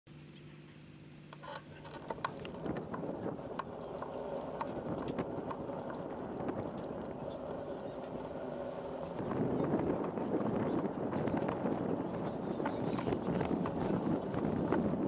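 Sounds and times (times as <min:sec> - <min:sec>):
rolling rumble and wind noise: 0:00.1 - 0:15.0.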